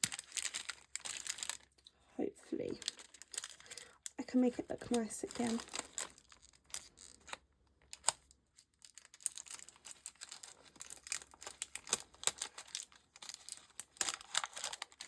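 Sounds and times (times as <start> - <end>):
paper packaging crinkling: 0.0 - 1.9, 2.5 - 15.0.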